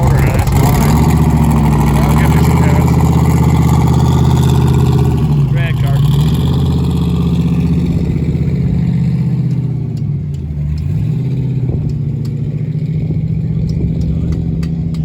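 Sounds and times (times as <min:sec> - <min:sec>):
car engine idling loud: 0:00.0 - 0:15.0.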